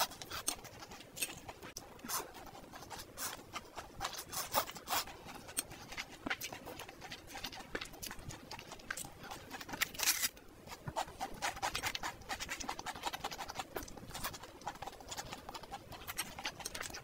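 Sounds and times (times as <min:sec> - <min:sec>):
person chewing noodles: 0:00.0 - 0:17.0.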